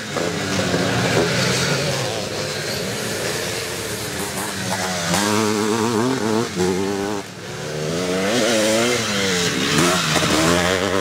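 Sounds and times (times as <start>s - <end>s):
motocross bike engines racing: 0.0s - 11.0s.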